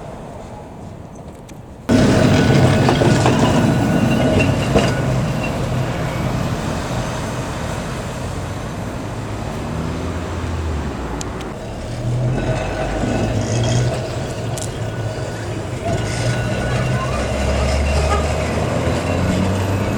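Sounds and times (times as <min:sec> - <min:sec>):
tram wheel and track noise: 0:00.0 - 0:19.9.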